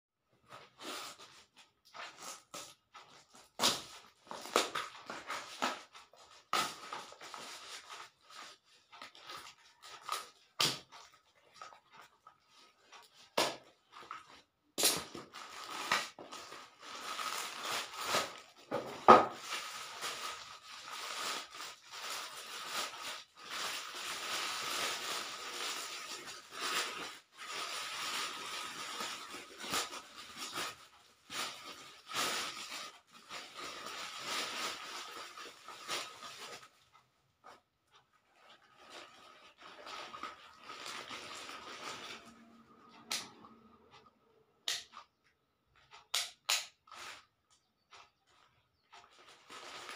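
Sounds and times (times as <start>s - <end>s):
cardboard and plastic rustling: 0.4s - 43.7s, 46.8s - 49.9s.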